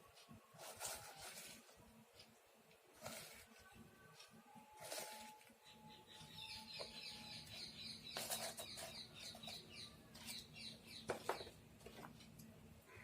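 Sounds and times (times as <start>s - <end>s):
faint birds chirping: 0.1s - 13.0s.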